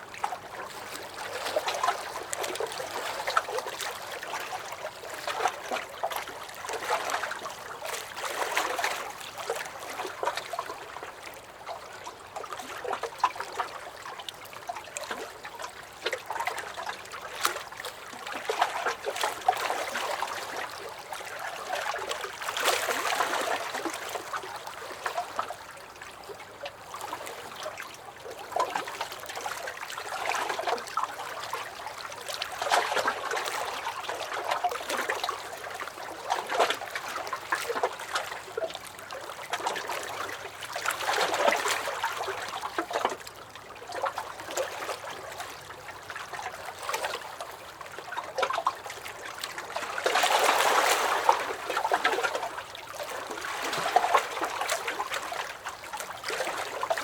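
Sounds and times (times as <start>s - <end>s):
waves lapping against a dock: 0.0s - 57.0s.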